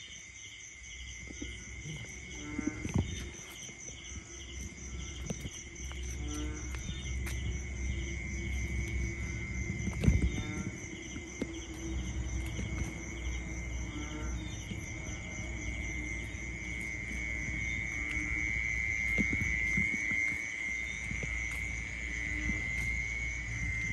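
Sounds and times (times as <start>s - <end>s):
night insects chirring: 0.0s - 23.9s
pulsing insect trill: 0.0s - 23.9s
low rumble: 1.5s - 23.9s.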